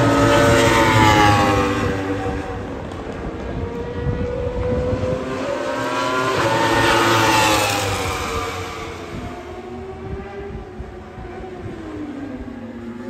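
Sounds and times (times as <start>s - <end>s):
motorcycle engines passing at speed: 0.0s - 13.0s.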